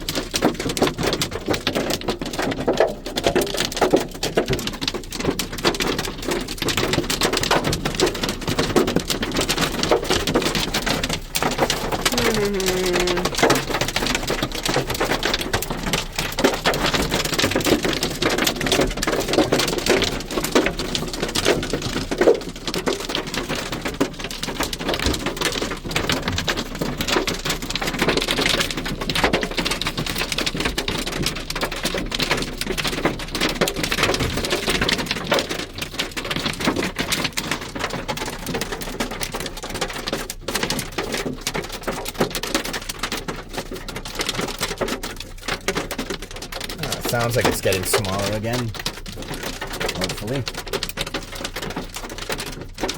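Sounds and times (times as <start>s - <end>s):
hail and rain on car roof: 0.0s - 52.9s.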